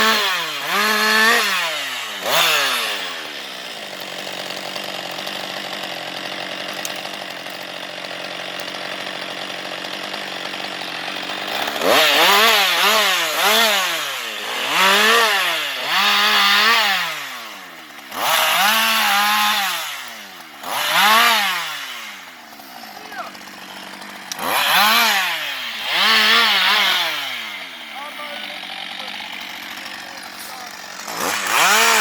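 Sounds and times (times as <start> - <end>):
chainsaw idling and revving: 0.0 - 32.0.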